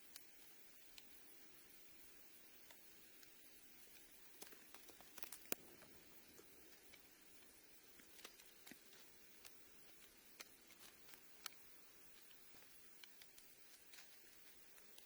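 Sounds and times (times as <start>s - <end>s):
quiet hiss: 0.0s - 15.0s.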